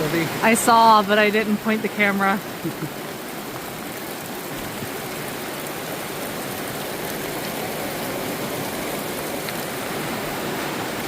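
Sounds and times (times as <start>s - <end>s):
fast-flowing river water rushing: 0.0s - 11.0s.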